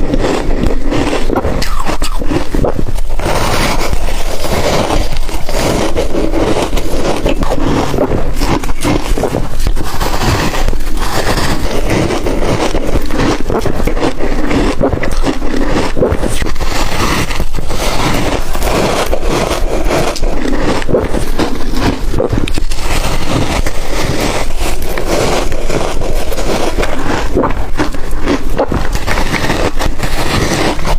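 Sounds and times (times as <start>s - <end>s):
ice being crunched: 0.0s - 30.9s.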